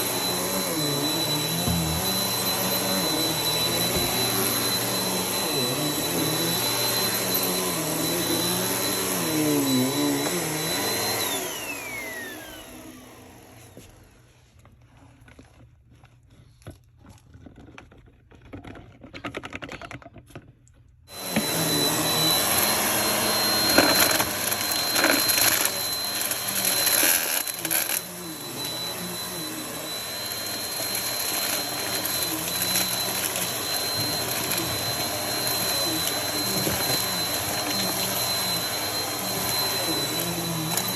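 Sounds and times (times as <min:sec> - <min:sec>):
vacuum cleaner running: 0:00.0 - 0:14.2, 0:21.1 - 0:40.9.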